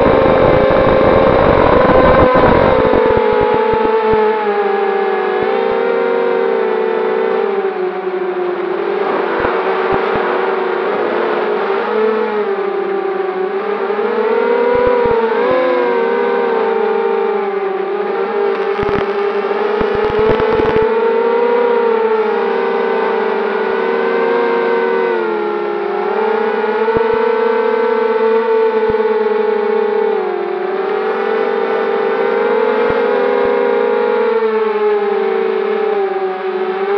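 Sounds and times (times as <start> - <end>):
drone motors whining: 0.0 - 36.9.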